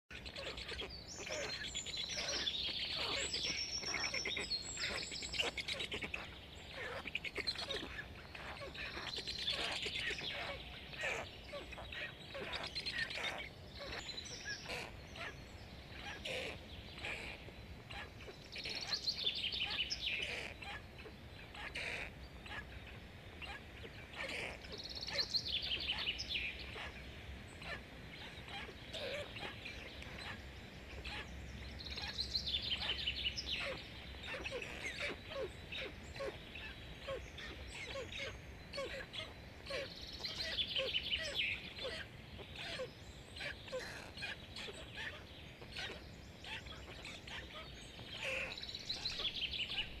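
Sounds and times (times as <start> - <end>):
birds chirping: 0.1 - 50.0.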